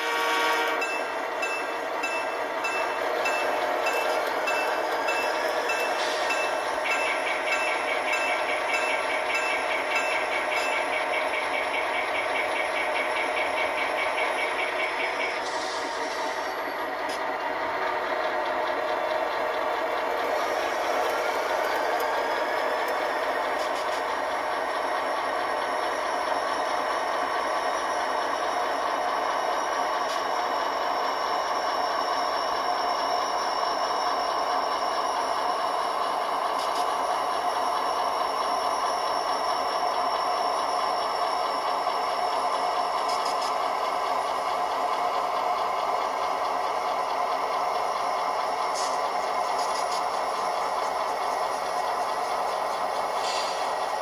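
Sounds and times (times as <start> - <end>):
model train rattling on track: 0.0 - 54.0.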